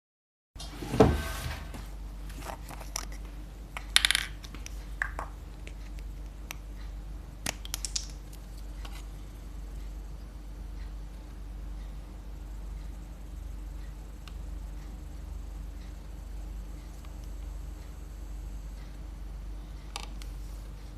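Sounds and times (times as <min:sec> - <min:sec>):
steady low hum: 0:00.6 - 0:20.9.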